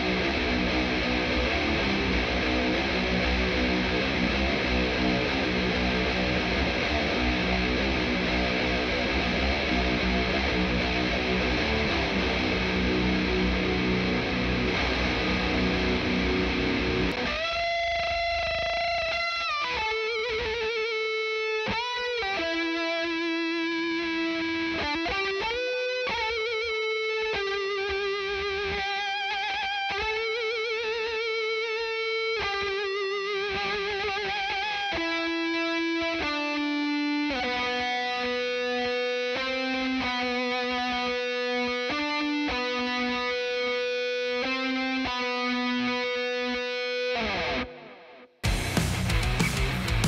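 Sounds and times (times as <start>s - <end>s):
distorted electric guitar solo: 0.0s - 50.0s
rhythm guitar chords: 0.0s - 50.0s.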